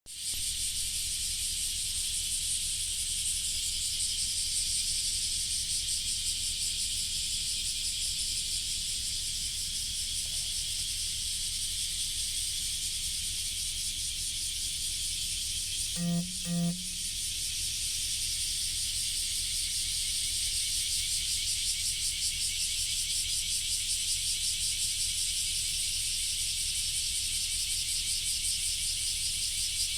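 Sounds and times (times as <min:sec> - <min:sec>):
insects chorus shrill hiss: 0:00.2 - 0:15.9, 0:18.3 - 0:29.9.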